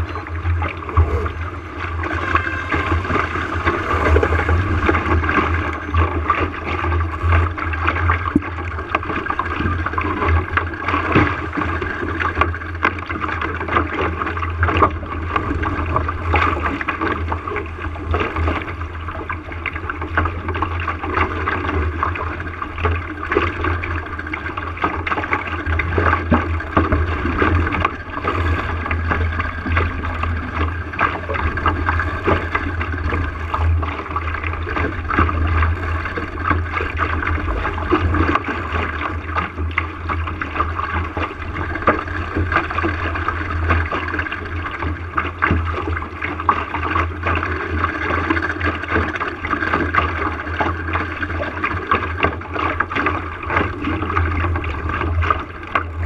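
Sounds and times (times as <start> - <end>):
water splashing along hull: 0.0 - 56.0
wind rumble on microphone: 0.0 - 56.0.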